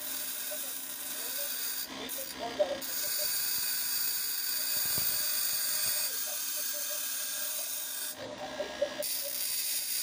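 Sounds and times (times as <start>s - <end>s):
angle grinder motor whining: 0.0s - 10.0s
steel pin grinding on disc: 0.0s - 10.0s.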